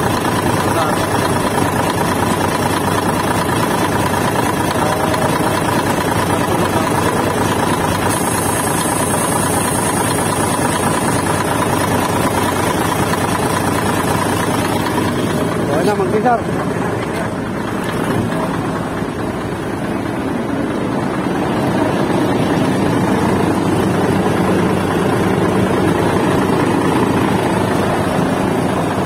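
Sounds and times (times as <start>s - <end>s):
truck diesel engine idling: 0.0s - 29.0s.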